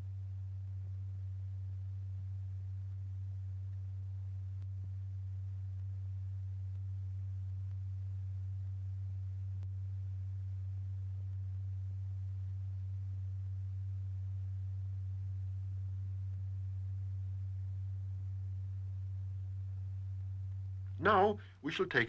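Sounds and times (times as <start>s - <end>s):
steady low pure tone: 0.0s - 22.0s.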